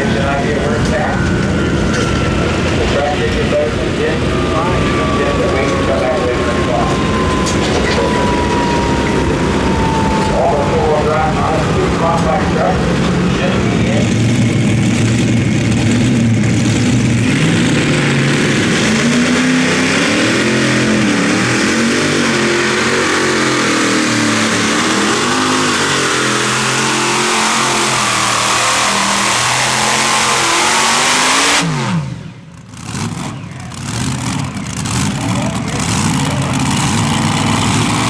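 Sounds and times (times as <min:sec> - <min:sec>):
tractor engine running at full power: 0:00.0 - 0:38.0.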